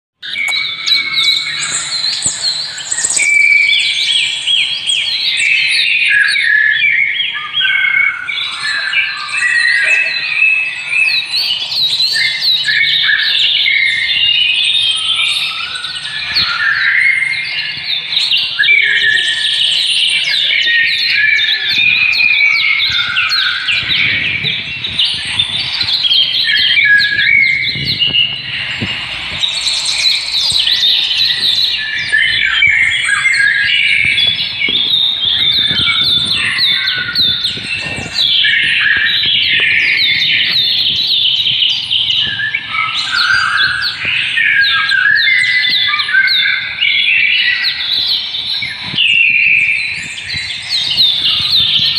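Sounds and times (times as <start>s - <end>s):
small birds chirping: 0.2s - 51.9s.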